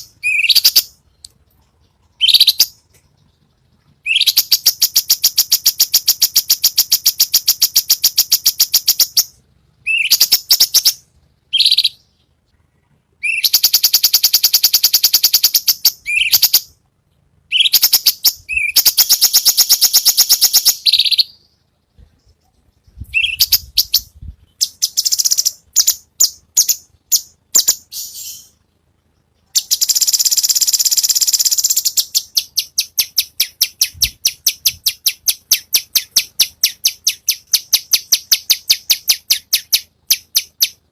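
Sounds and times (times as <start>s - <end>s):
songbird trilling: 0.0s - 1.2s, 2.1s - 2.9s, 4.0s - 12.2s, 13.2s - 16.7s, 17.5s - 21.5s, 22.8s - 28.6s, 29.5s - 40.8s
songbird chirps: 0.0s - 40.9s.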